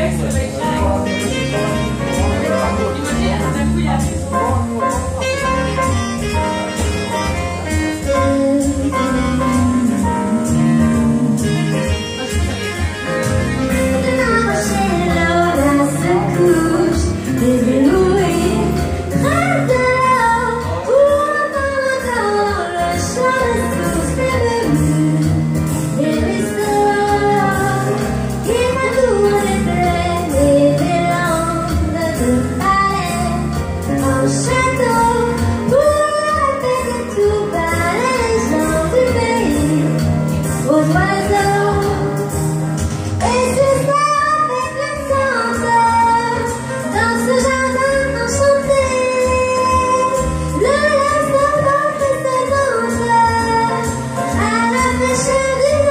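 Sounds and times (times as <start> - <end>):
musical accompaniment: 0.0 - 55.9
woman singing: 7.7 - 12.0, 13.7 - 55.9.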